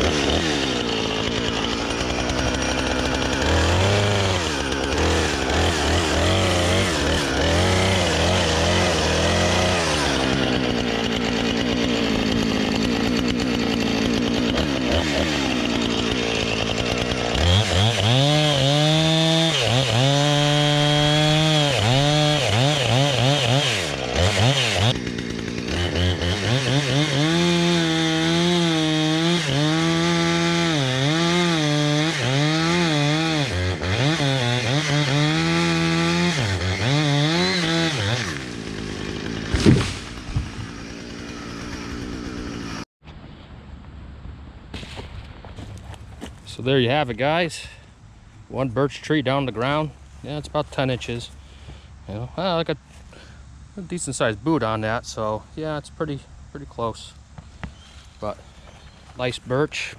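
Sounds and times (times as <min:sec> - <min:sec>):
chainsaw cutting wood: 0:00.0 - 0:42.9, 0:44.7 - 0:47.3, 0:49.3 - 0:55.2, 0:56.0 - 0:59.9.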